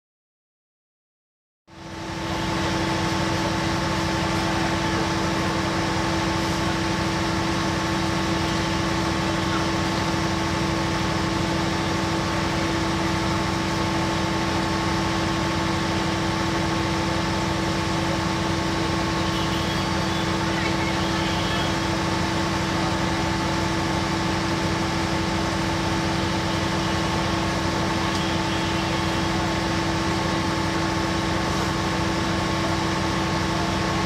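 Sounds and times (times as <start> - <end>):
train diesel engine idling: 1.7 - 34.0.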